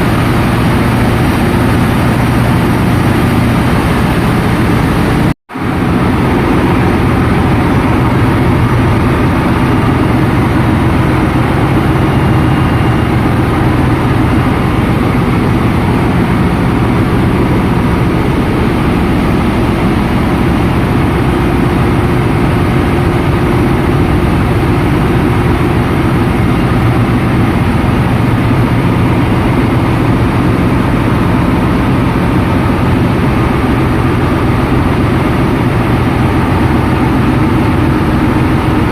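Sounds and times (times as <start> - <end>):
engine-room machinery diesel hum: 0.0 - 38.9.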